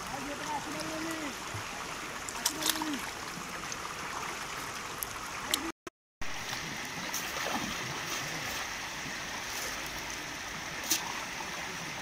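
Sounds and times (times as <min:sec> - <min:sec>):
flooded river rushing: 0:00.0 - 0:05.7, 0:06.3 - 0:12.0.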